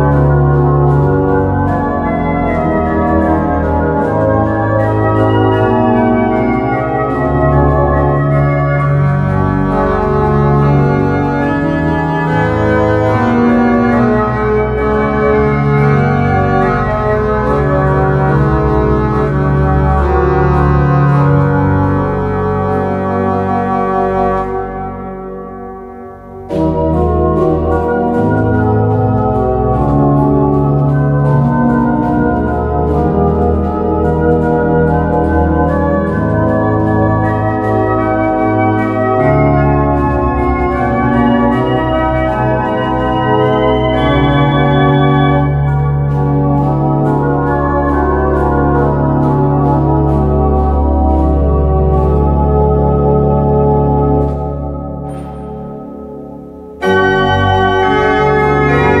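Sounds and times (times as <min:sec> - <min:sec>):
organ playing hymn chords: 0:00.0 - 0:59.0.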